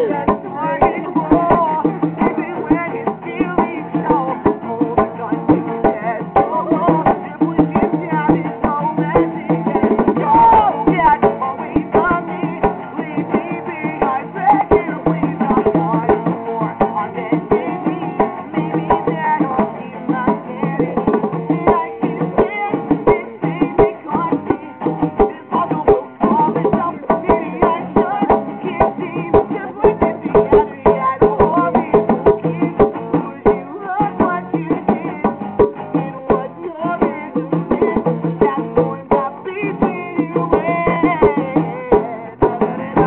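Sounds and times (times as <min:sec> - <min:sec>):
hand percussion: 0:00.0 - 0:43.0
strummed acoustic guitar: 0:00.0 - 0:43.0.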